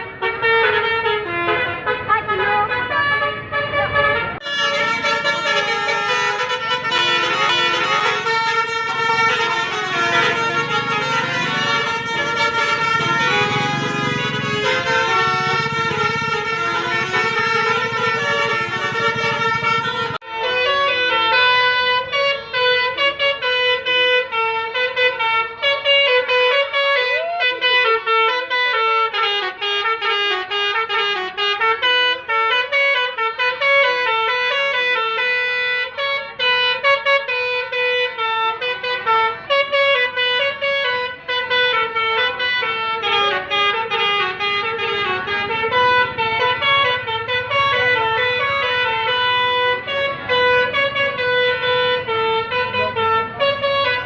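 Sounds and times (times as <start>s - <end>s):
musical air horn melody: 0.0s - 54.0s.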